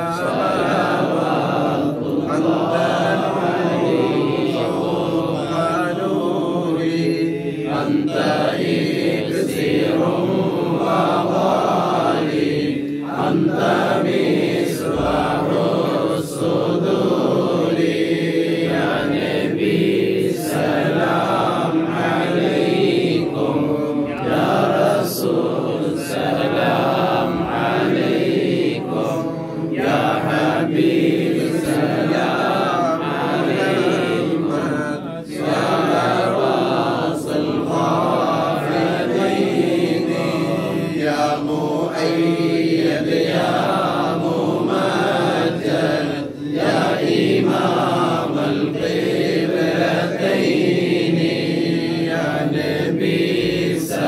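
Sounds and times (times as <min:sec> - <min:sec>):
group of men chanting: 0:00.0 - 0:54.0.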